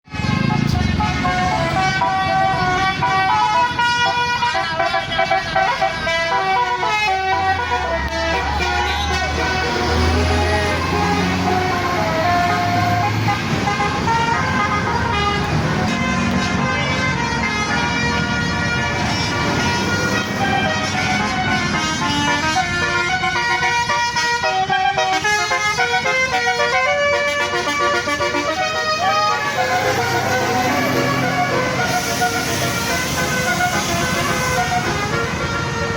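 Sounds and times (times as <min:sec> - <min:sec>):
multi-tone bus horn melody: 0:00.0 - 0:35.9.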